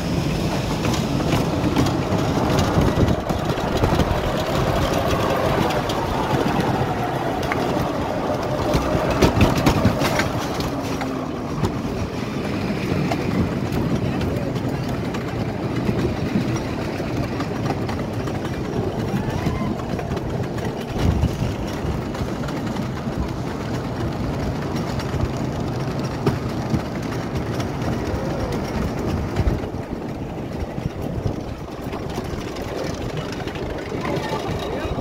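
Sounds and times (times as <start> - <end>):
roller coaster lift clatter: 0.0 - 35.0.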